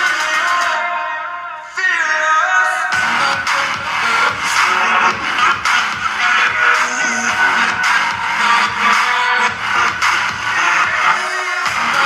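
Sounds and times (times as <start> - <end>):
loud music through speaker: 0.0 - 12.0.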